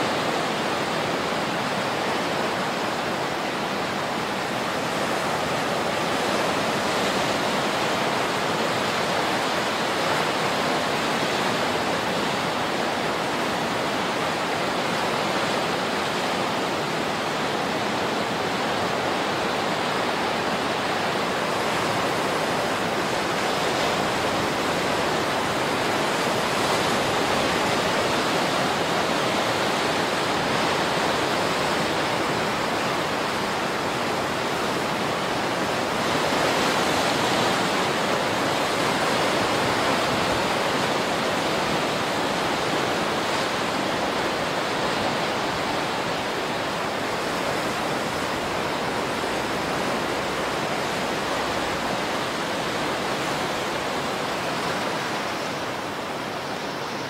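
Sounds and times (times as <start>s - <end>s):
ocean surf on rocks: 0.0s - 57.0s.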